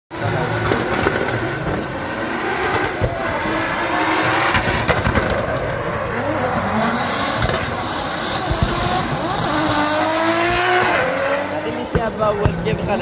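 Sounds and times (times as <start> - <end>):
car engine revving: 0.1 - 13.0.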